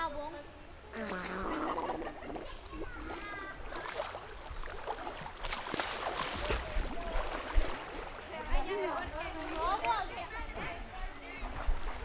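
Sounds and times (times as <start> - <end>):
river water sloshing: 1.0 - 12.0
water splashes and drips: 2.3 - 12.0.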